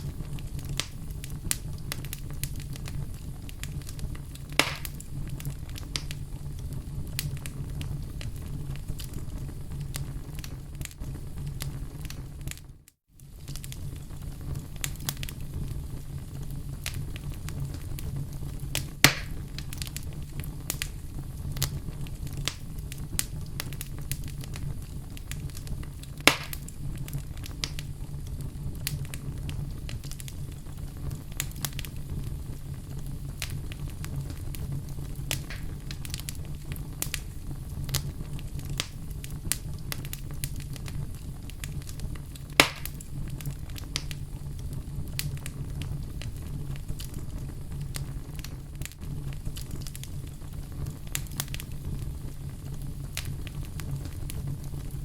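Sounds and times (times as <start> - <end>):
fire crackling: 0.0 - 55.0
sharp fire pops: 0.0 - 55.0
wood fire burning: 0.0 - 55.0.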